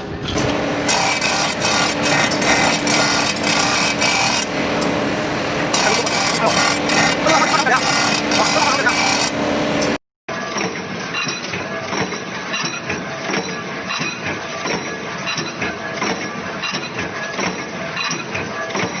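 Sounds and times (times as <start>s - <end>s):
machine clattering: 0.0s - 19.0s.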